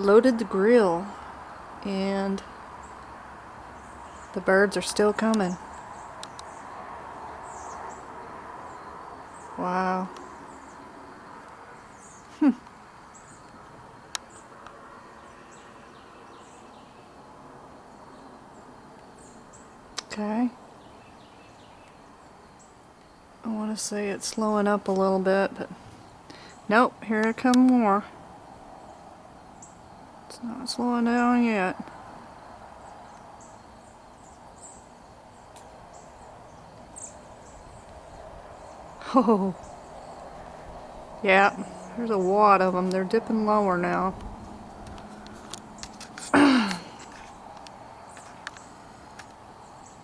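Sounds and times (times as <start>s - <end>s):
birds chirping: 0.0s - 50.0s
steady outdoor hiss: 0.0s - 50.0s.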